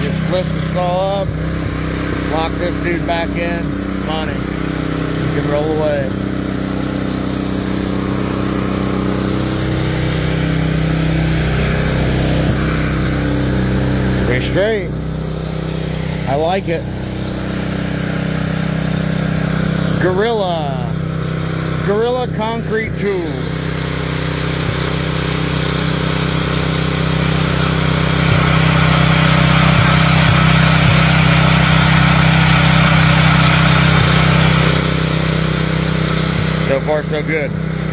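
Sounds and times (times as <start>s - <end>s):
small gasoline engine running: 0.0s - 37.9s.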